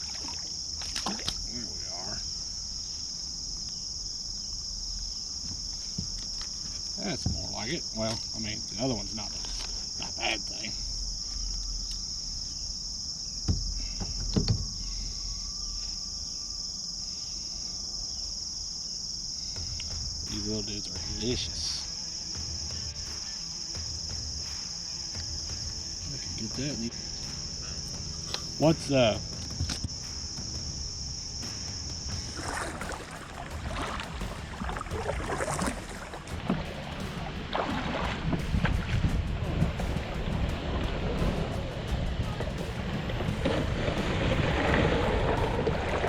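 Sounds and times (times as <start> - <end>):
kayak rustles and knocks: 0.0 - 16.0, 19.4 - 46.0
crickets chirping: 0.0 - 46.0
high insect trill: 0.0 - 46.0
wind rumbling on microphone: 0.0 - 46.0.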